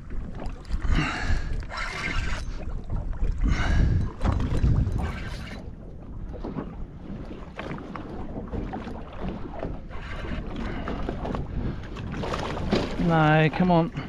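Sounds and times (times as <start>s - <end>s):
water sloshing against boat hull: 0.0s - 14.0s
wind on microphone: 0.0s - 14.0s.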